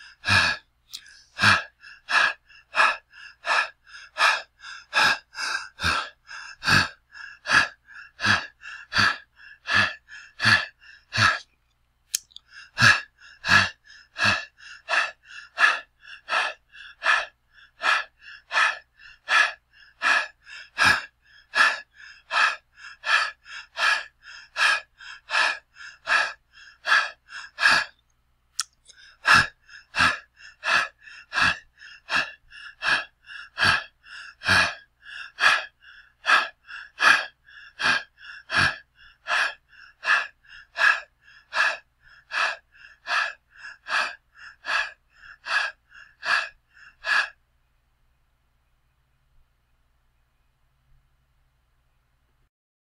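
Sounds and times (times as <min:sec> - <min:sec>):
person breathing heavily: 0:00.0 - 0:11.5, 0:12.2 - 0:47.4.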